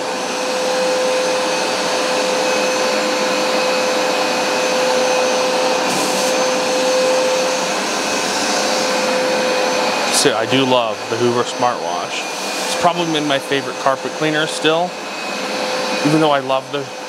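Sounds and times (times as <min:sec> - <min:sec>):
carpet cleaner motor whine: 0:00.0 - 0:17.0.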